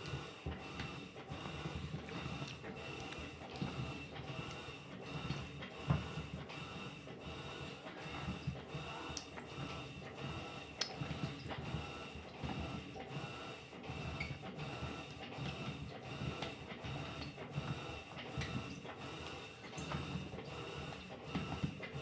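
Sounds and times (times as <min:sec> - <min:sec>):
washing machine churning: 0:00.0 - 0:22.0.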